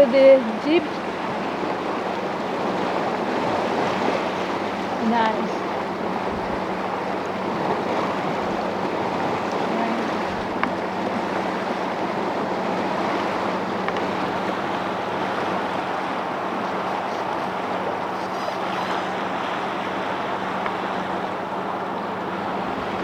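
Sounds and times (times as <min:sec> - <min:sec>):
rushing water: 0:00.0 - 0:23.0
wind: 0:00.0 - 0:23.0.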